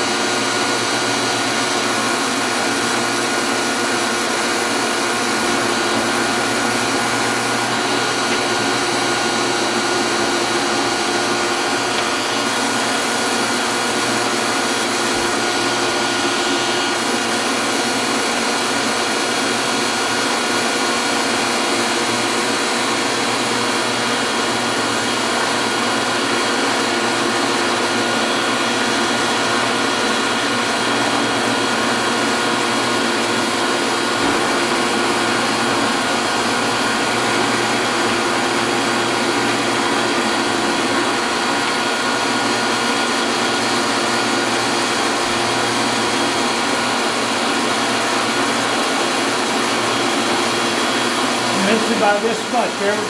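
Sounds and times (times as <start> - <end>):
metal lathe whirring: 0.0 - 53.0.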